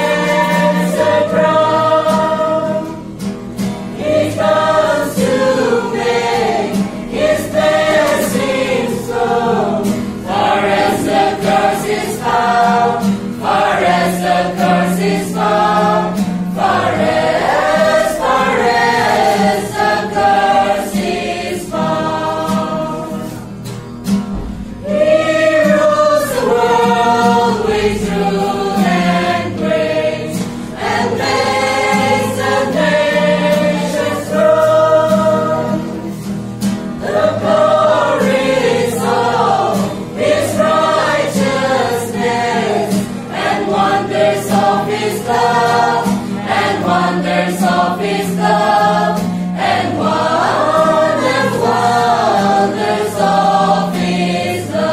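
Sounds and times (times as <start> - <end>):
group of female voices singing: 0.0 - 3.0, 3.9 - 23.5, 24.4 - 36.2, 37.0 - 54.9
acoustic guitar strumming chords: 0.0 - 54.9.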